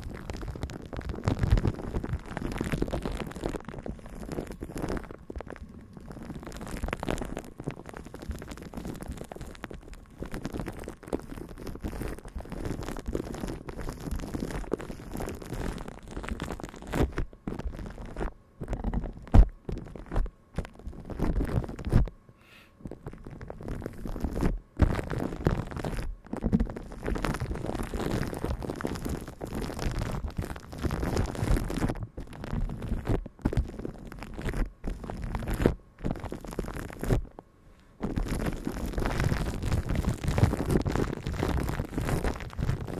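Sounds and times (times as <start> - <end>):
muffled rubbing and scratching: 0.0 - 22.2, 22.8 - 42.9.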